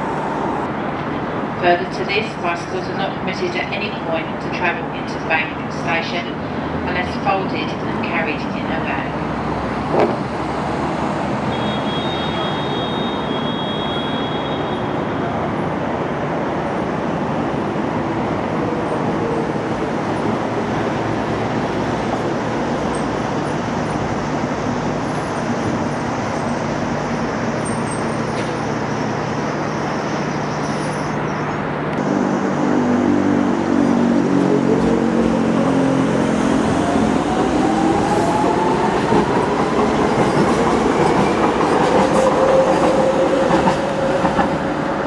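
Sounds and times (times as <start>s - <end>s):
train rumbling: 0.0s - 11.5s, 14.9s - 45.0s.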